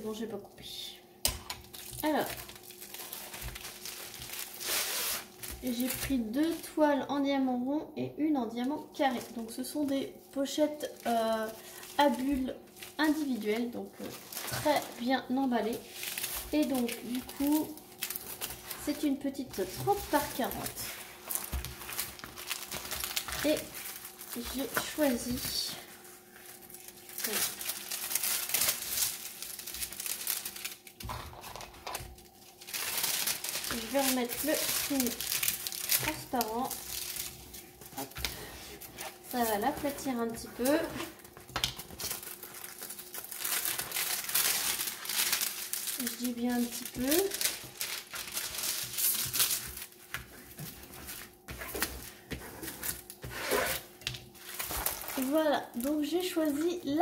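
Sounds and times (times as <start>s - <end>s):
plastic film crinkling: 1.4s - 7.2s, 8.4s - 57.0s.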